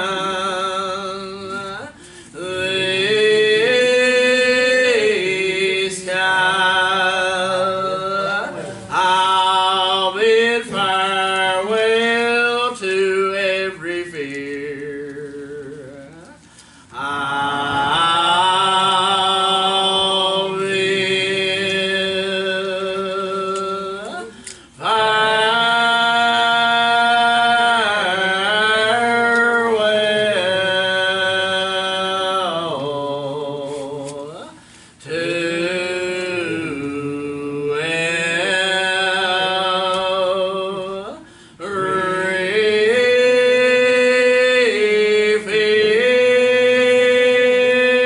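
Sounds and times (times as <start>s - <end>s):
man singing a hymn: 0.0s - 48.0s.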